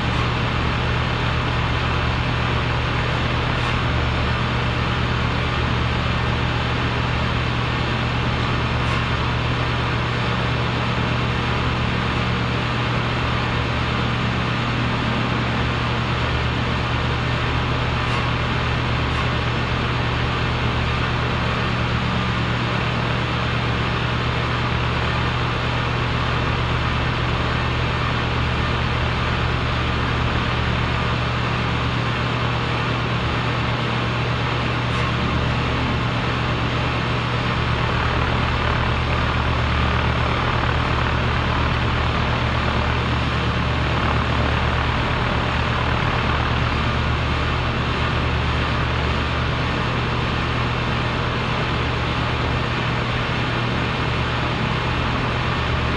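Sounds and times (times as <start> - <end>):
compressor running: 0.0 - 55.9.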